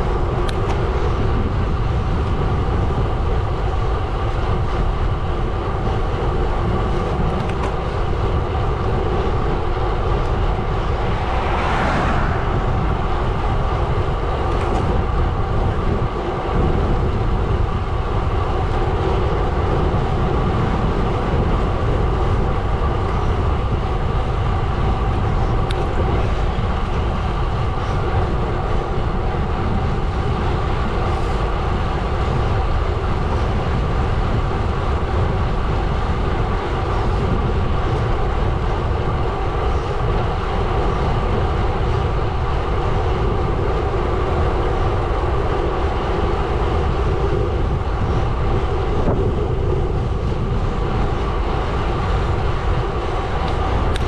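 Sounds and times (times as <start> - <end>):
bike drivetrain running: 0.0 - 54.0.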